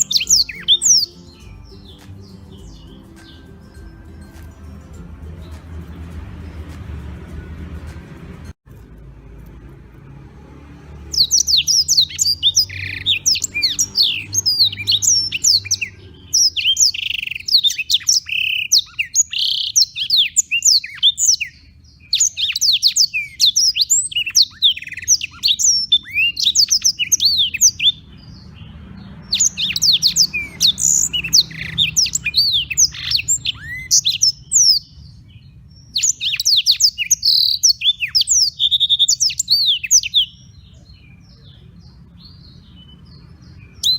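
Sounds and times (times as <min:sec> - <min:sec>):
canary singing chirps and trills: 0:00.0 - 0:08.5, 0:10.2 - 0:43.9.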